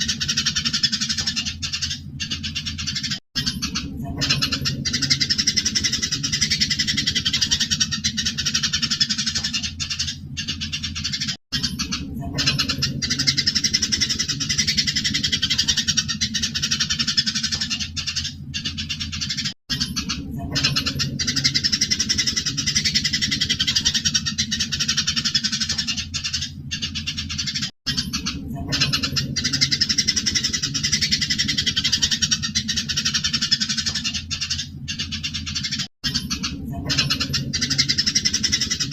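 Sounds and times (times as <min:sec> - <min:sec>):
low steady hum: 0:00.0 - 0:38.9
sparrows chattering and twittering: 0:00.0 - 0:38.9.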